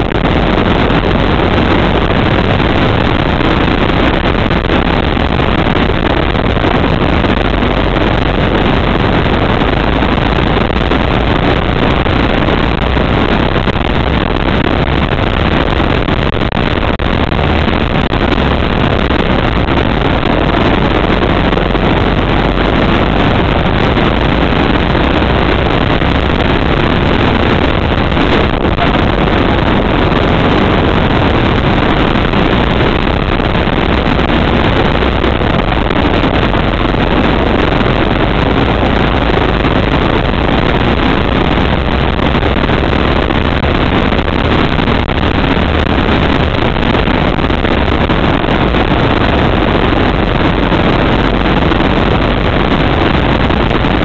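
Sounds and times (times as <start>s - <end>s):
go-kart engine droning: 0.0s - 54.0s.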